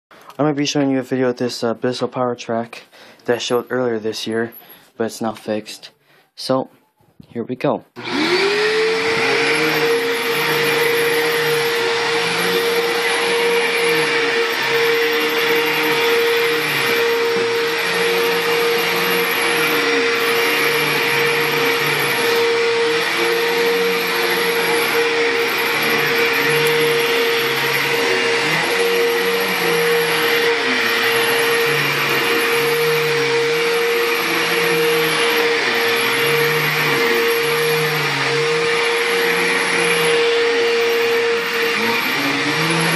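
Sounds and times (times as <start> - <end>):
vacuum cleaner running on carpet: 8.0 - 42.9.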